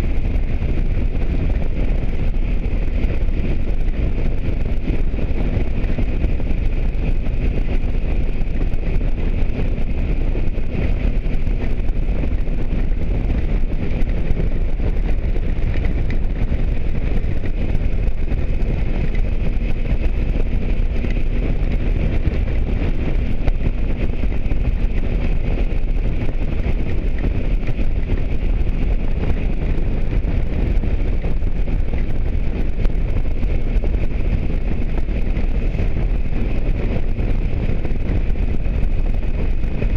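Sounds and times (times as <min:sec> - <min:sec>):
faint engine drone: 0:00.0 - 0:39.9
road noise: 0:00.0 - 0:39.9
wind rush on microphone: 0:00.0 - 0:39.9.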